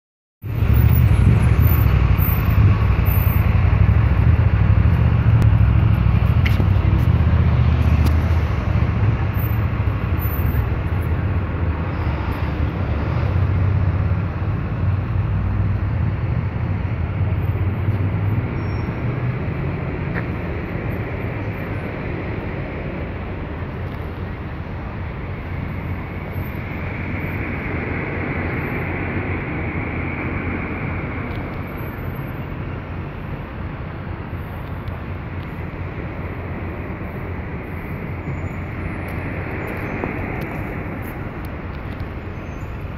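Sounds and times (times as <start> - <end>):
low rumble of city traffic: 0.4 - 42.9.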